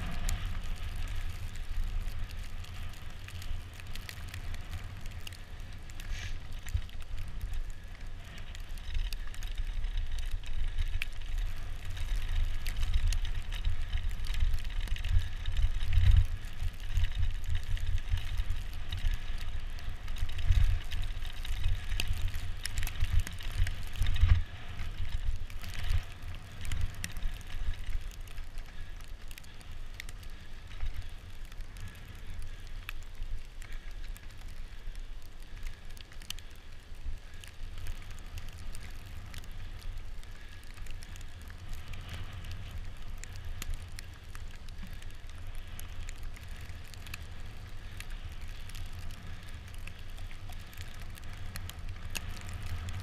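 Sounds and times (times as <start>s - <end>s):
bicycle tyres rumbling on snow: 0.0s - 53.0s
small clicks and ticks: 0.0s - 53.0s.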